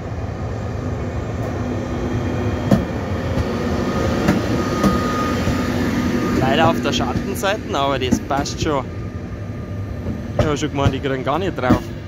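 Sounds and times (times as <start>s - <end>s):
higher steady tone: 0.0s - 11.6s
electric locomotive passing: 0.0s - 12.0s.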